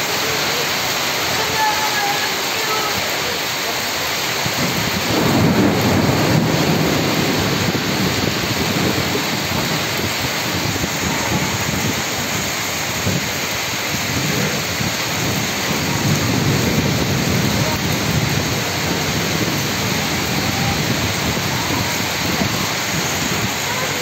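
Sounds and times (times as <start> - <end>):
heavy rain and hail on gravel: 0.0 - 24.0
low rumble of thunder: 4.5 - 24.0.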